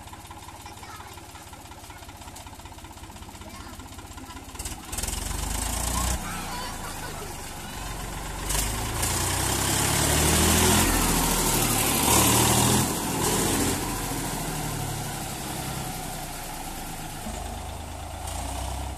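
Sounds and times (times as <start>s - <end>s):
tractor diesel engine revving: 0.0s - 18.9s.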